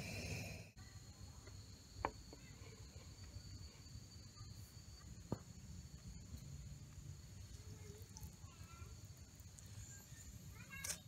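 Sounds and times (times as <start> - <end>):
faint high insect chirring: 0.0 - 11.0.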